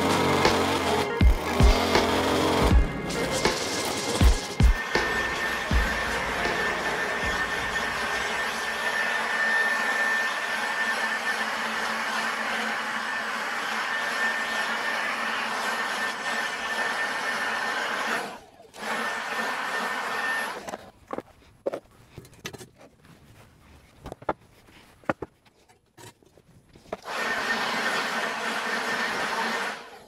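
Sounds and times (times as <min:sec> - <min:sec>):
power lawn tool motor whine: 0:00.0 - 0:21.2, 0:26.9 - 0:30.0.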